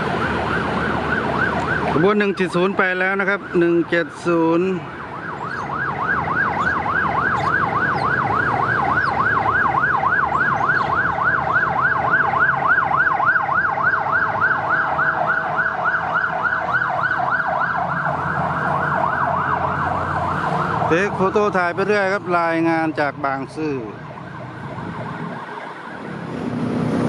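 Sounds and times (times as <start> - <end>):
electronic siren yelping: 0.0 - 26.3.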